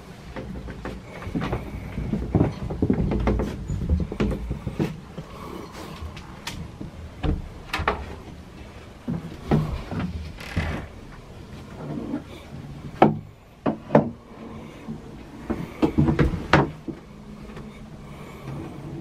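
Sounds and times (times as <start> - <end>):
knocks and thumps in wooden cabin: 0.0 - 18.8.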